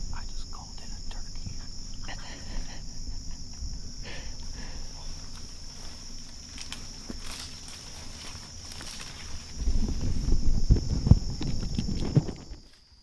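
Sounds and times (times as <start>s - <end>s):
insects buzzing: 0.0s - 13.0s
rustles in undergrowth: 1.6s - 13.0s.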